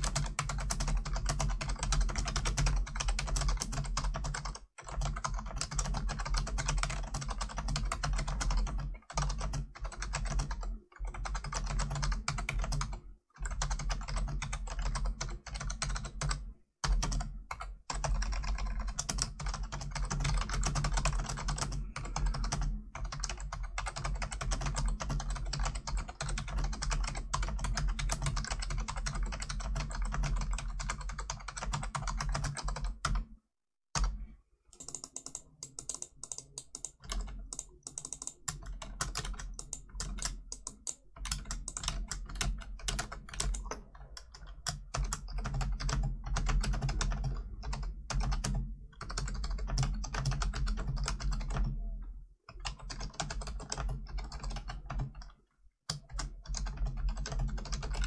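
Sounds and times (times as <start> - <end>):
fast keyboard typing: 0.0 - 33.3, 34.0 - 55.3, 55.9 - 58.0.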